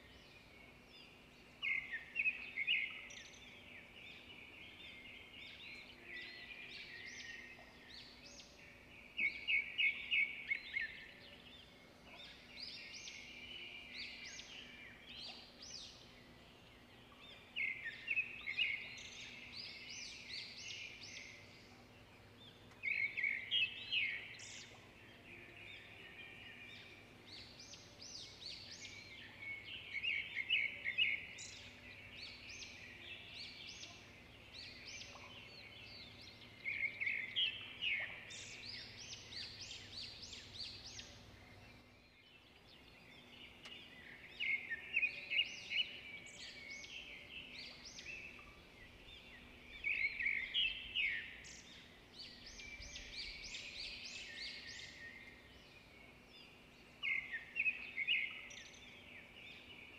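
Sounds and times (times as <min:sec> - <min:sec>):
quiet bird twittering: 0:00.0 - 0:59.9
songbird chirping and trilling: 0:00.0 - 0:59.9.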